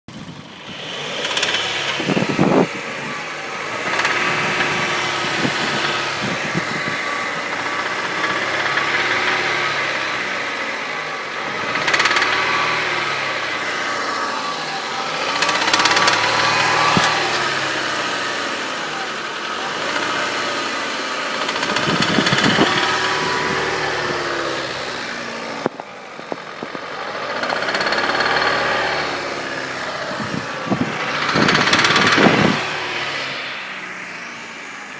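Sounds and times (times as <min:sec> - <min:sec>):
car engine running: 0:00.1 - 0:34.9.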